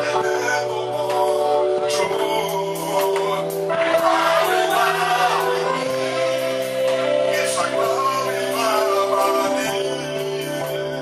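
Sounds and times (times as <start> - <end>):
held organ chords: 0.0 - 11.0
voices singing: 0.0 - 11.0.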